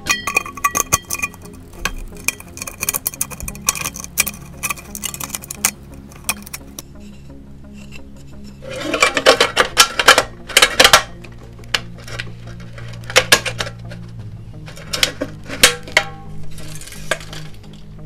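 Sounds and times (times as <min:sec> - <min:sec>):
tin cans clinking and scraping: 0:00.0 - 0:06.8, 0:07.8 - 0:18.0.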